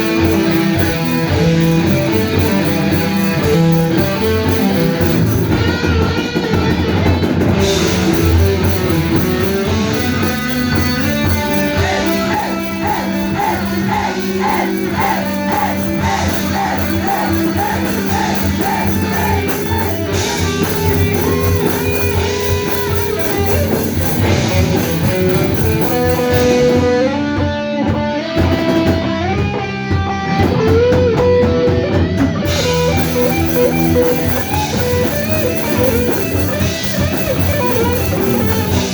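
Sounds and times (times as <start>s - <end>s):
drum kit: 0.0s - 27.2s, 30.5s - 38.9s
melodic guitar line: 0.0s - 28.2s, 32.4s - 38.9s
distorted electric guitars: 0.0s - 38.9s.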